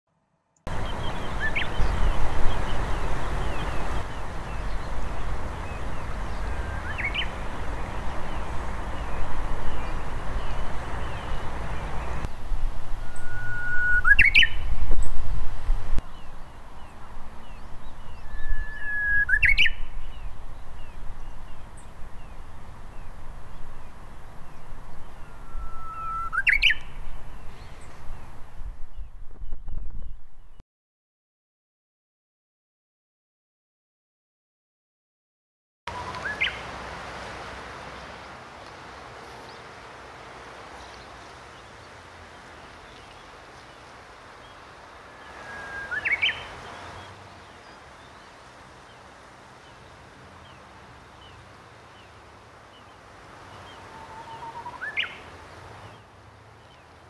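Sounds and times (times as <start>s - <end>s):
steady background hiss: 0.7s - 29.5s, 35.9s - 57.0s
bush warbler singing: 0.7s - 30.6s, 35.9s - 36.7s, 37.9s - 57.0s.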